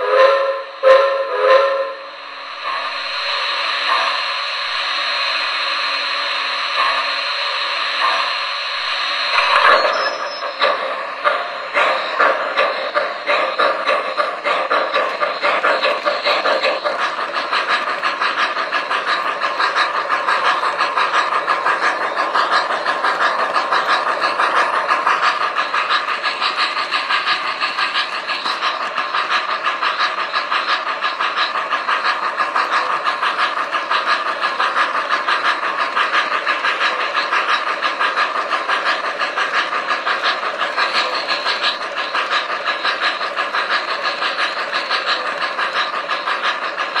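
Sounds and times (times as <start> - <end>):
model train chuffing: 0.0 - 47.0
model train steam hissing: 0.0 - 47.0.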